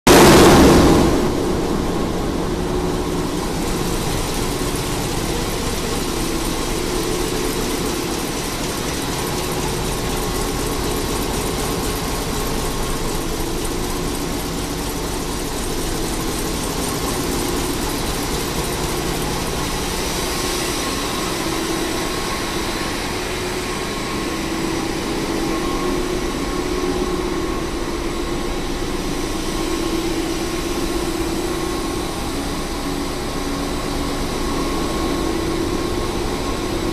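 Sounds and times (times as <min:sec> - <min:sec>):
diesel machinery mechanical din: 0:00.1 - 0:36.9
steady machine hums: 0:00.1 - 0:36.9.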